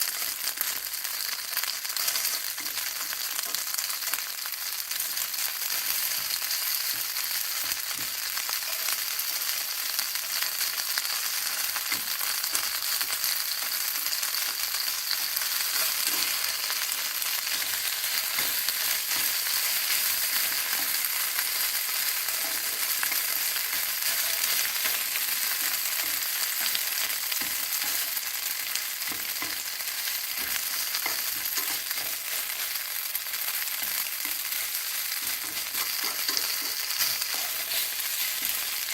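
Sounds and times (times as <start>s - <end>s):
food sizzling in frying pan: 0.0s - 38.9s.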